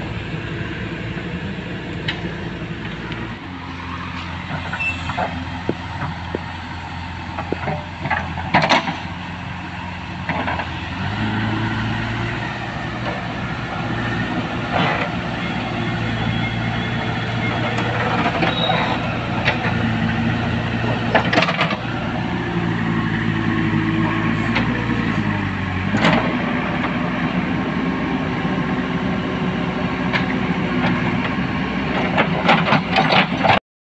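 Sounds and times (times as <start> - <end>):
diesel engine revving: 0.0 - 33.6.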